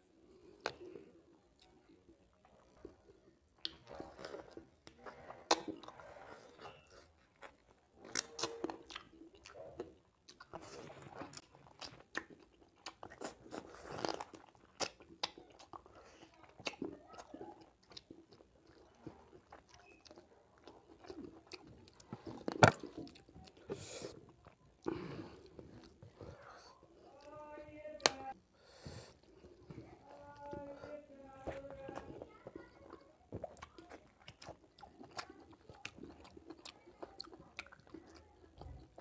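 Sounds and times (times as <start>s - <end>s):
chewing and crunching: 0.2s - 27.4s, 28.0s - 39.0s.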